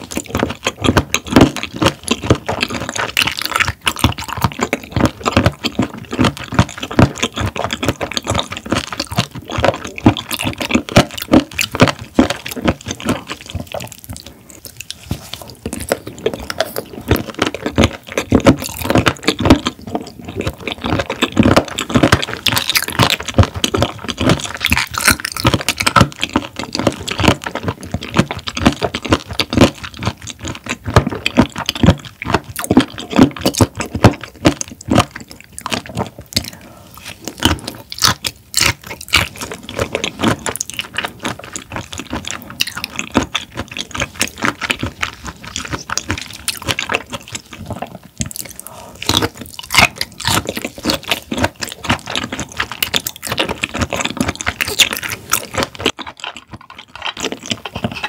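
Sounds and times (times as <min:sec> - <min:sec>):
chewing with mouth clicks: 0:00.0 - 0:58.0.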